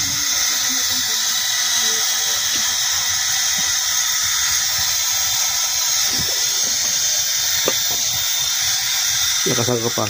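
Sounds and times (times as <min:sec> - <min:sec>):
hydraulic oil flowing: 0:00.0 - 0:10.0
hydraulic valve hissing: 0:00.0 - 0:10.0.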